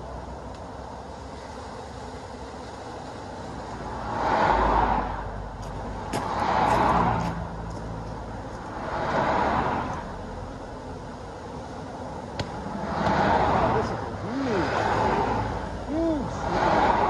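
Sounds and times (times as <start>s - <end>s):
steady background noise: 0.0s - 17.0s
vehicles passing on road: 0.0s - 17.0s.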